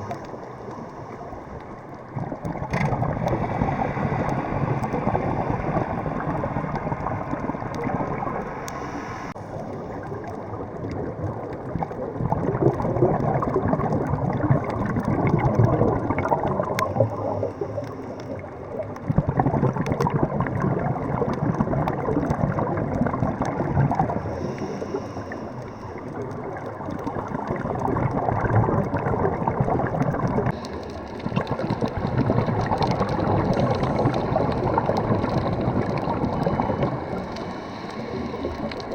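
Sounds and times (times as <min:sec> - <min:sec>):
muffled rushing gurgling water: 0:00.0 - 0:38.9.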